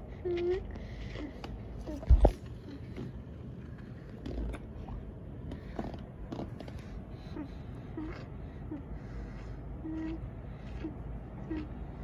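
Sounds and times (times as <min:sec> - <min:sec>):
distant city rumble: 0:00.0 - 0:12.0.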